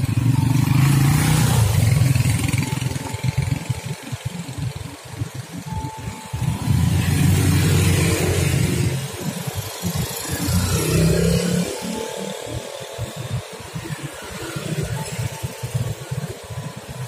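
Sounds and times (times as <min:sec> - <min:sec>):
motor scooters passing: 0:00.0 - 0:17.0.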